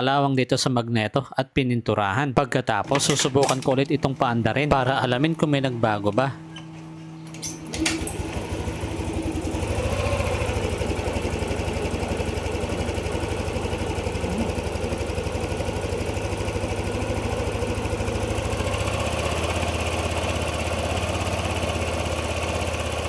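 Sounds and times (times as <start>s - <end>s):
scooter engine starting: 2.8s - 23.0s
scooter engine idling: 2.9s - 23.0s.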